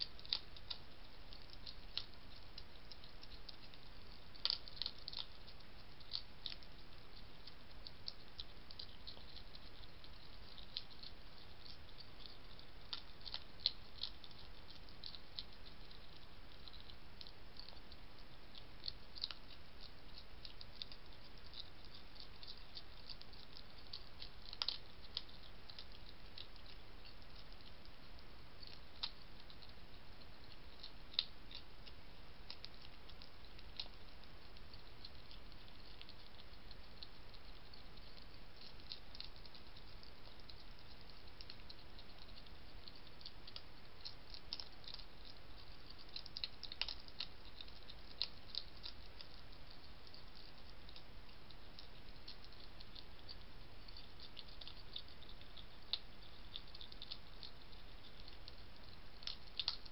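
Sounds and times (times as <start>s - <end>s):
hedgehog crunching dry food: 0.0s - 59.9s.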